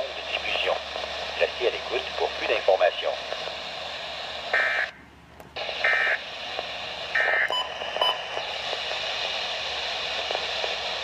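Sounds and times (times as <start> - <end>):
radio hiss: 0.0 - 4.9, 5.6 - 11.0.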